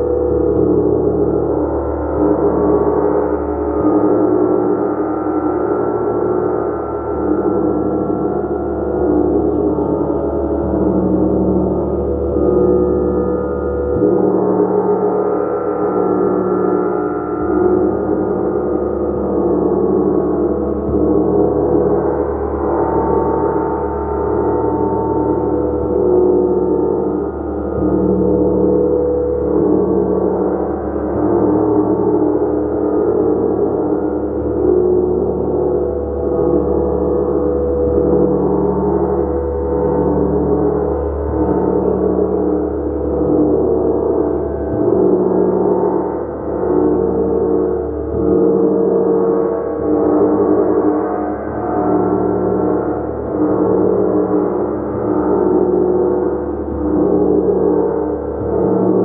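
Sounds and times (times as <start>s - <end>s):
large gong ringing: 0.0s - 59.0s.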